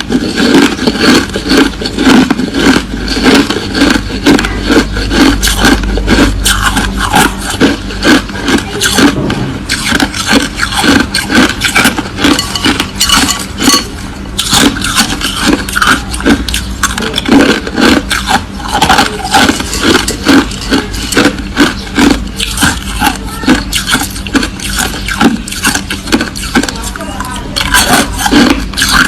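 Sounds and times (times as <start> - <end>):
chewing crushed ice: 0.0 - 29.0.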